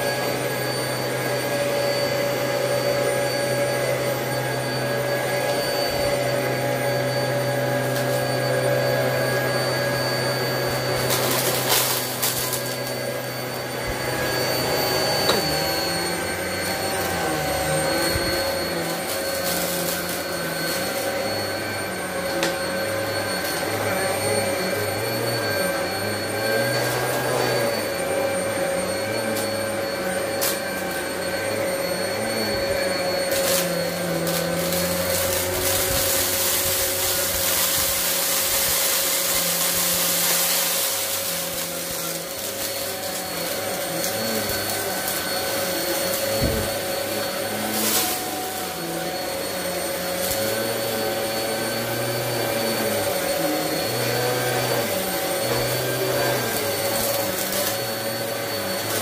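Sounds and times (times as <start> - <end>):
vacuum cleaner motor whine: 0.0 - 59.0
vacuum sucking up grit: 0.0 - 59.0.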